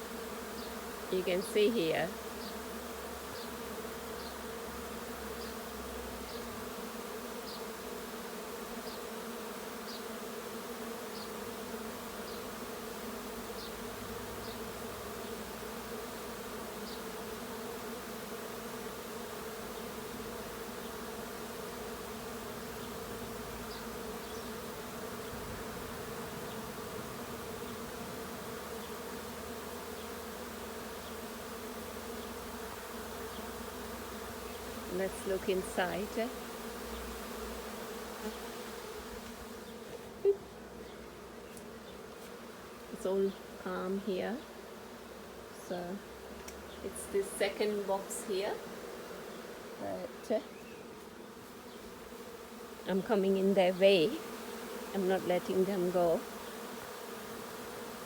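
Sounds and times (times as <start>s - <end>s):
bee swarm buzzing: 0.0s - 58.0s.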